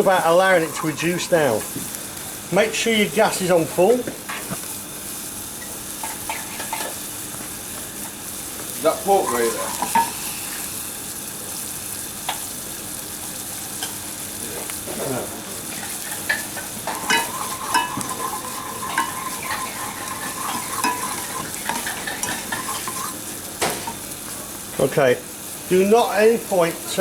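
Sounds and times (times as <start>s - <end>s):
wine boiling and sizzling in pan: 0.0s - 27.0s.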